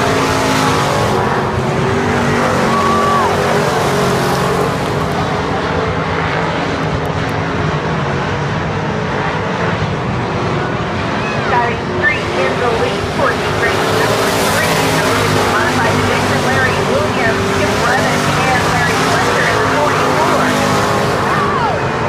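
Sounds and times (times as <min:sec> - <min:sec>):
race car engines at high revs: 0:00.0 - 0:22.0.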